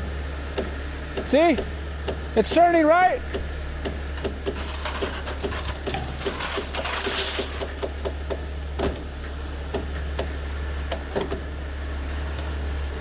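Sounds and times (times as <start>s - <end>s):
heavy machinery droning: 0.0s - 13.0s.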